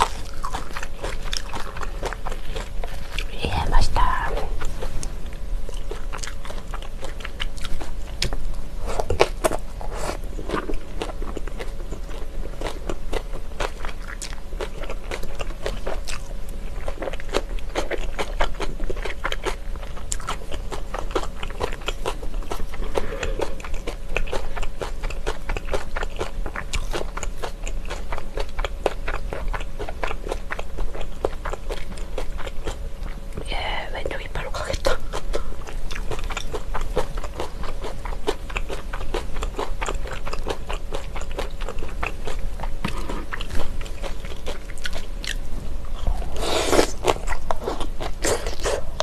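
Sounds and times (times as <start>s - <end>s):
person chewing noodles: 0.0s - 33.8s, 34.6s - 49.0s.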